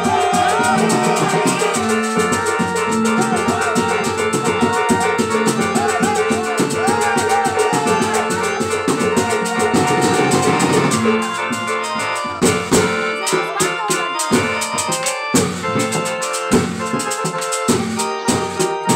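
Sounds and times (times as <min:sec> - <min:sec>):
drums beating fast rhythm: 0:00.0 - 0:18.9
wavering melody line: 0:00.0 - 0:18.9.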